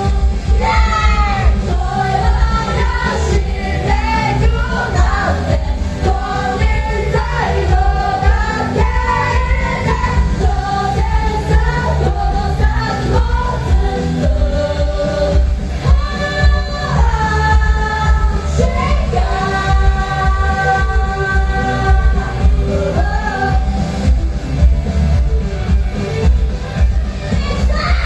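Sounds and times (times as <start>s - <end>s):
woman singing: 0.0s - 23.8s, 27.0s - 28.0s
amplified band with heavy bass: 0.0s - 28.0s.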